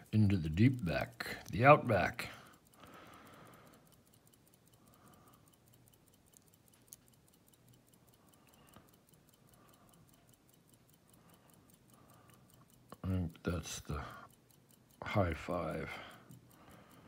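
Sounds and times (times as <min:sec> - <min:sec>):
faint fast ticking: 0:00.0 - 0:17.0.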